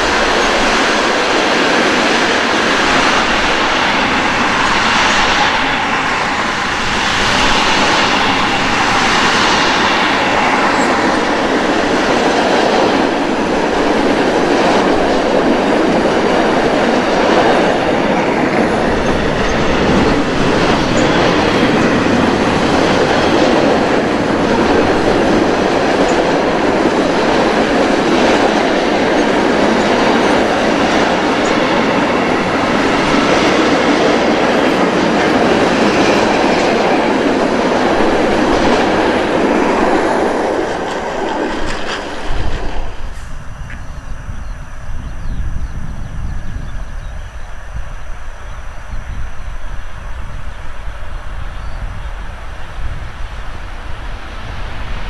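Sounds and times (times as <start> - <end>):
train wheels clattering on rails: 0.0 - 44.5.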